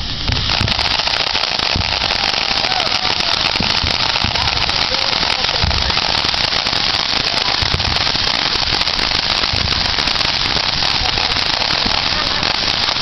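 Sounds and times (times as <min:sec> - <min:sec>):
fireworks crackling: 0:00.0 - 0:13.0
low firework thumps: 0:00.0 - 0:13.0.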